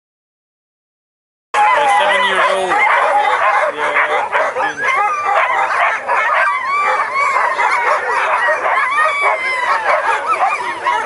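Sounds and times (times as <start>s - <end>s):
dogs barking and yipping: 1.6s - 11.0s.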